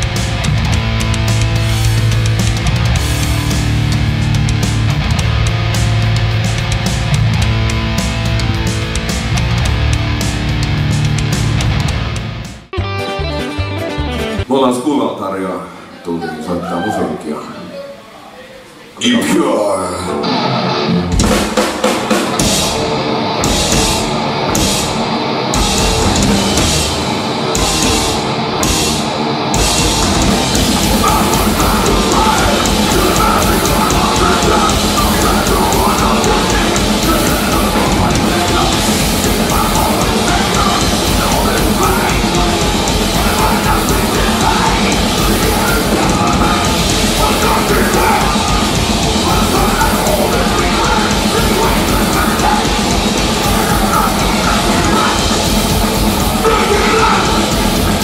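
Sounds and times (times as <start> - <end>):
bass guitar: 0.0 - 14.5, 20.0 - 58.0
distorted electric guitars: 0.0 - 14.5, 19.0 - 58.0
drum kit: 0.0 - 14.5, 20.3 - 58.0.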